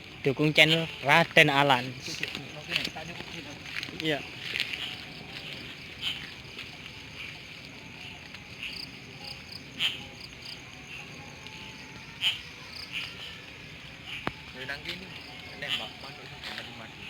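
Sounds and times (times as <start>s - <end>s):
crickets chirping: 0.0s - 17.0s
loud sharp cricket chirps: 0.0s - 17.0s.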